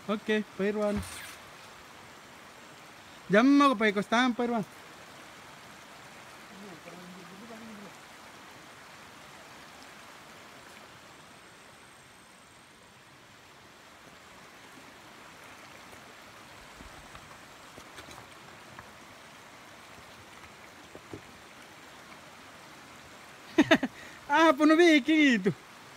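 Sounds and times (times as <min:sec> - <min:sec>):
stream rushing: 0:00.0 - 0:25.9.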